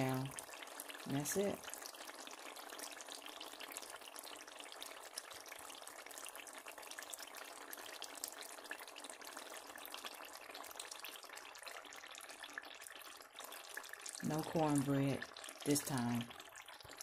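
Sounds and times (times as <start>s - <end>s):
pot simmering and bubbling: 0.0s - 17.0s.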